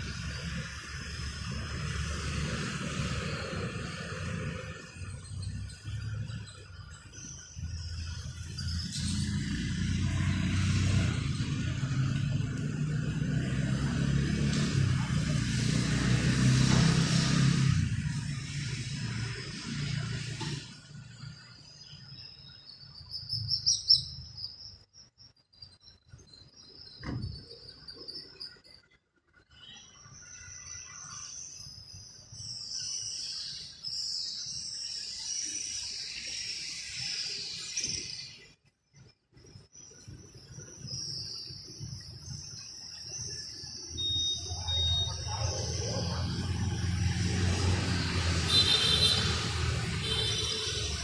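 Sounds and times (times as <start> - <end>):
small birds chirping: 0.0 - 15.6, 20.8 - 51.0.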